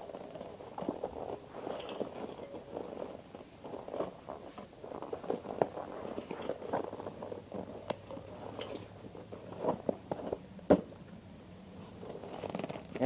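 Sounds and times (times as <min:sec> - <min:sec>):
rubber rubbing and handling: 0:00.0 - 0:11.0, 0:11.6 - 0:13.0.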